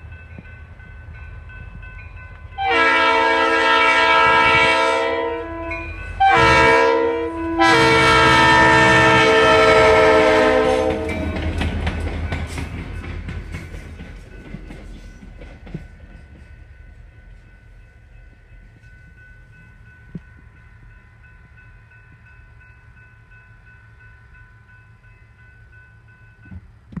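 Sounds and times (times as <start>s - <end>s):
crossing warning bell ringing: 0.0s - 26.8s
passing locomotives: 0.0s - 27.0s.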